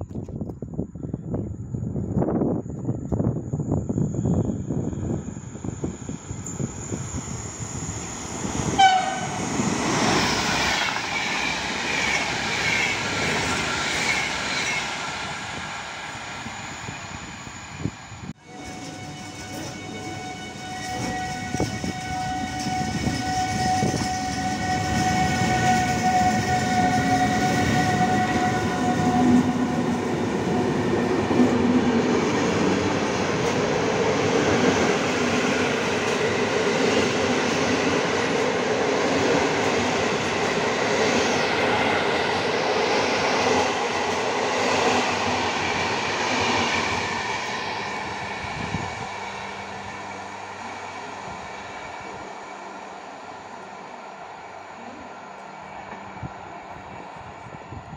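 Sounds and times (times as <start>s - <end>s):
steady high locomotive tone: 0.0s - 57.9s
train coaches rumbling past: 0.7s - 57.9s.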